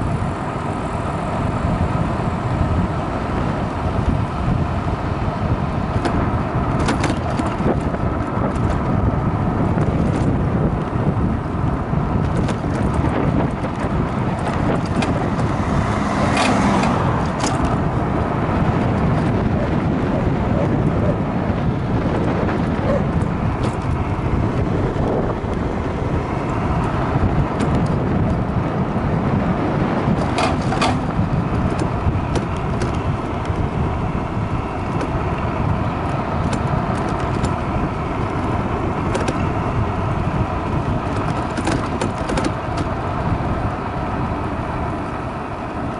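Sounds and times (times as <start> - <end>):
scooter road rumble: 0.0 - 45.9
wind buffeting microphone: 0.0 - 45.9.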